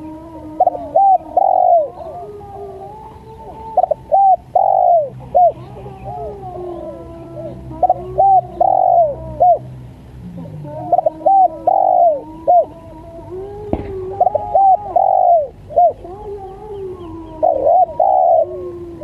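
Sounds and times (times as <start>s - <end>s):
dove cooing: 0.0s - 9.7s, 10.3s - 19.0s
faint cooing: 0.0s - 19.0s.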